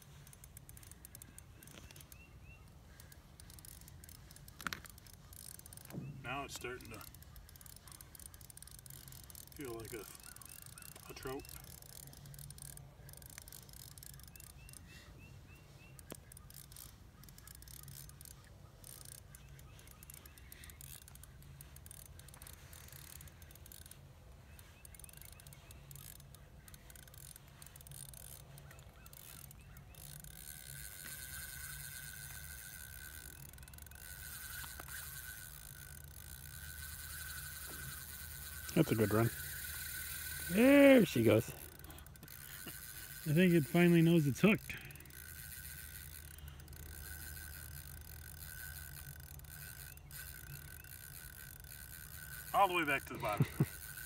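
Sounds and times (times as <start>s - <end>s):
fishing reel drag whining: 0.0s - 54.0s.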